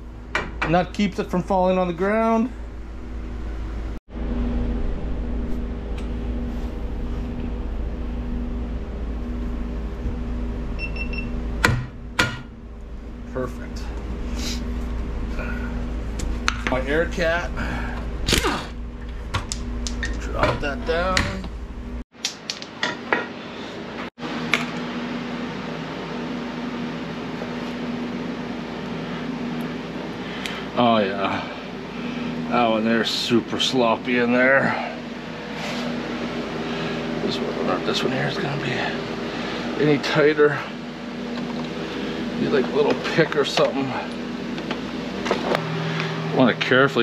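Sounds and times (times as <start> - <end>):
mechanical hum: 0.0 - 47.0.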